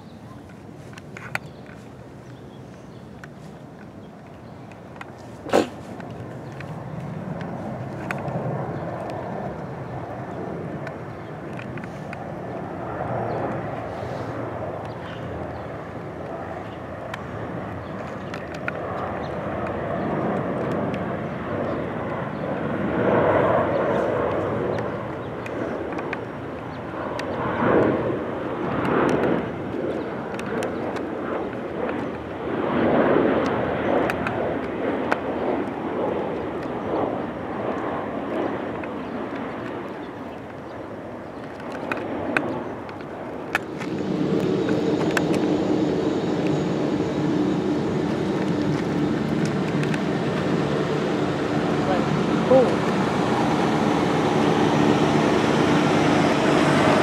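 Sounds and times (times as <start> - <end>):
airliner engine rush: 0.0 - 57.0.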